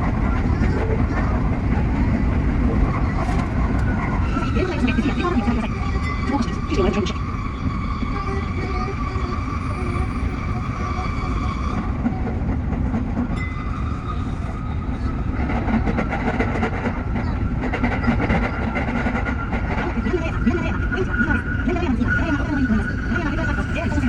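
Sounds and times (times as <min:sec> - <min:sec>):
electric train rumble and whine: 0:00.0 - 0:24.0.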